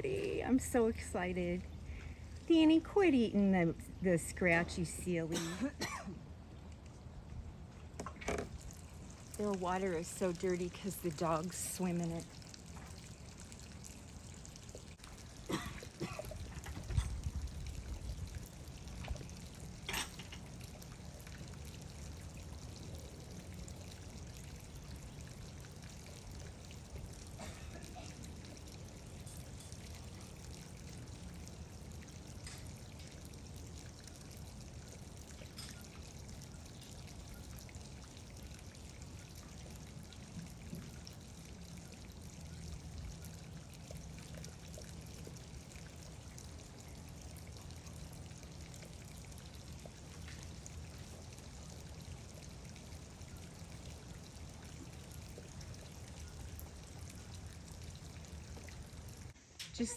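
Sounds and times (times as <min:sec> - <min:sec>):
water pouring and trickling: 0:00.0 - 0:59.9.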